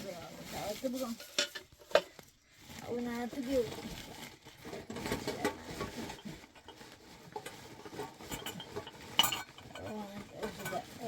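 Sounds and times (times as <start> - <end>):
metal utensils scraping a pot: 0.1 - 2.2, 2.8 - 11.0.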